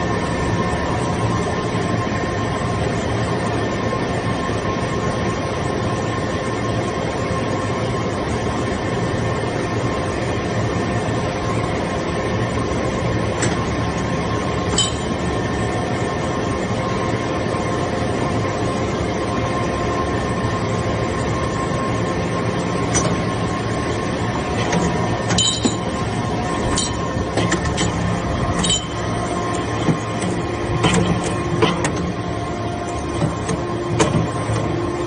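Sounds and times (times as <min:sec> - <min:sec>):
baler machine humming and whining: 0:00.0 - 0:35.0.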